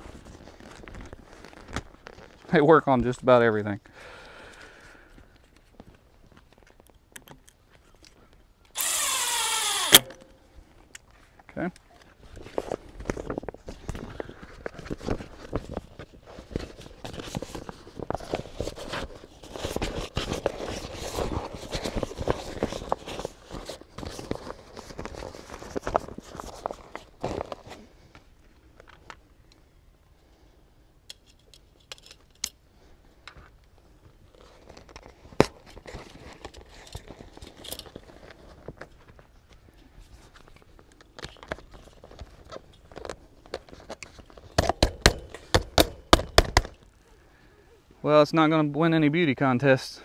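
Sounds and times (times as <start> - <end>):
crinkling and rustling: 0.0 - 3.5, 4.5 - 8.4, 10.0 - 29.3, 31.1 - 47.0.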